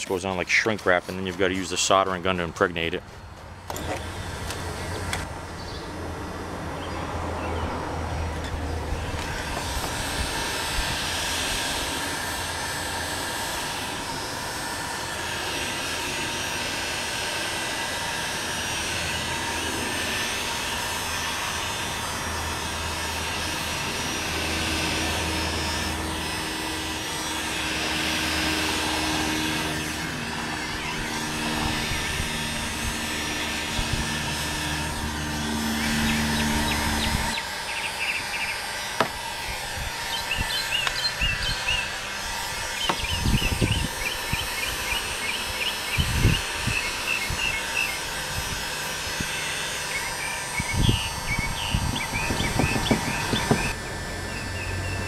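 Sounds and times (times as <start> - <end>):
heat gun blowing: 0.0 - 55.0.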